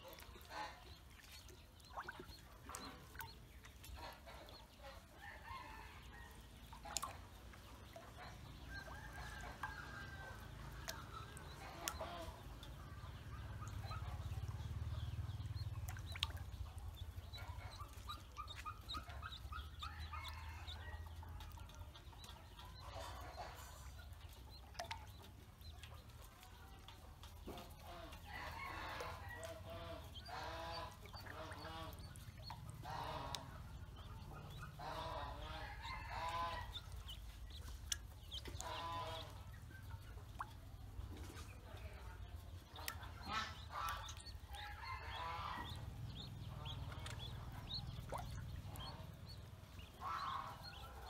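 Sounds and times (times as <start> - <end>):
ducklings peeping: 0.0 - 51.0.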